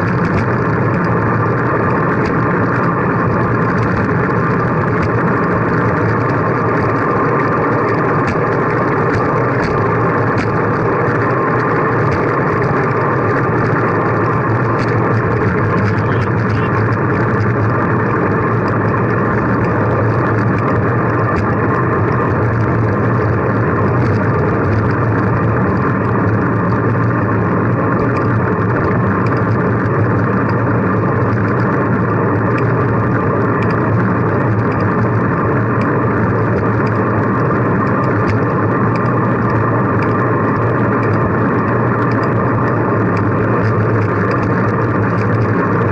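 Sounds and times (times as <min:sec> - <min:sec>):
constant low hum: 0:00.0 - 0:45.9
wind and road rushing noise: 0:00.0 - 0:45.9.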